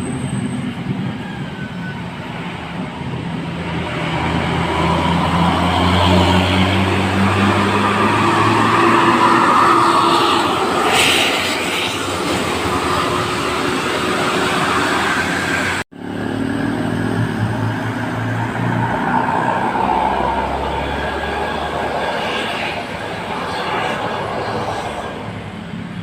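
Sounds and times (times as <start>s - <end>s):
bus engine and tyre noise: 0.0s - 26.0s
road traffic: 0.0s - 26.0s.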